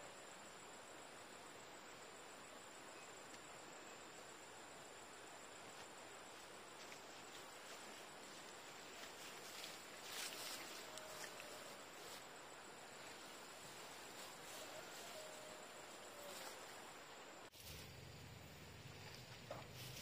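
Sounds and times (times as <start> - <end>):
faint outdoor hiss: 0.0 - 20.0
high-pitched insect trill: 0.0 - 20.0.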